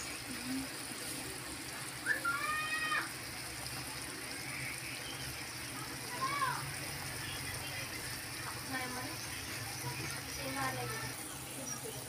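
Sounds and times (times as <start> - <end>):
soup boiling and bubbling: 0.0 - 12.0.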